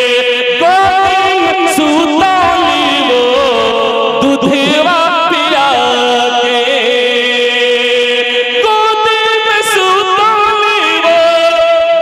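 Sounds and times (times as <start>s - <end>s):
man singing solo: 0.0s - 12.0s.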